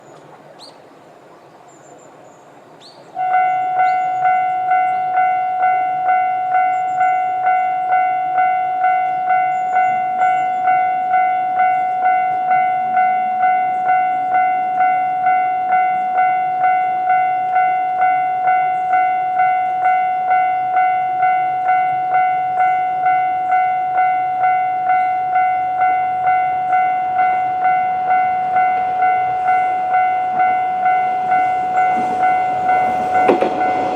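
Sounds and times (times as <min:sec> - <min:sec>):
level crossing warning bell: 0:01.7 - 0:33.9.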